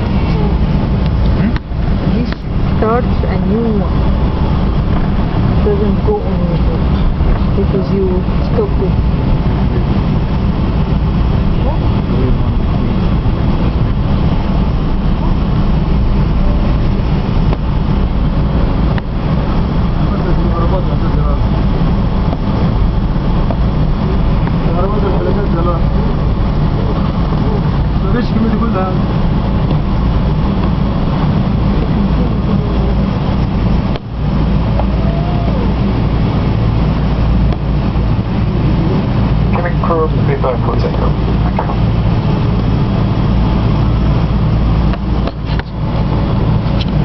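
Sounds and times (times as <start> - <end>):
jet engines heard from cabin: 0.0 - 47.0
low rumble of wheels: 0.0 - 47.0.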